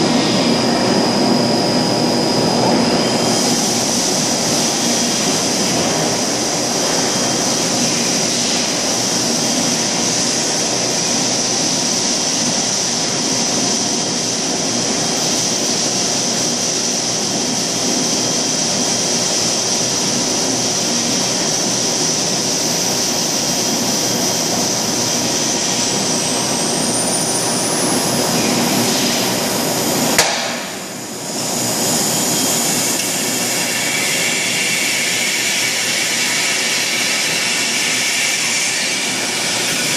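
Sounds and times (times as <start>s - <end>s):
high machine whine: 0.0s - 39.9s
machine hiss and hum: 0.0s - 39.9s.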